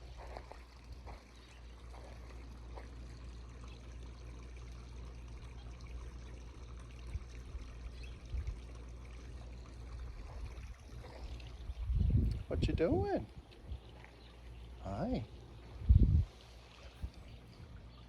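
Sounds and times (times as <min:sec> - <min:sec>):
constant low rumble: 0:00.0 - 0:18.0
water trickling: 0:00.0 - 0:18.0.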